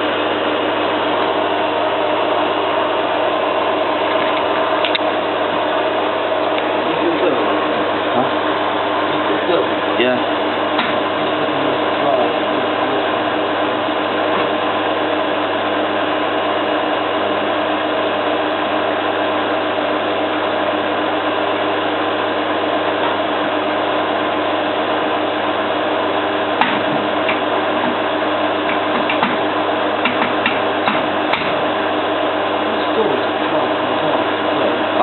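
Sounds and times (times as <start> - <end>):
washing machine spinning: 0.0 - 35.0.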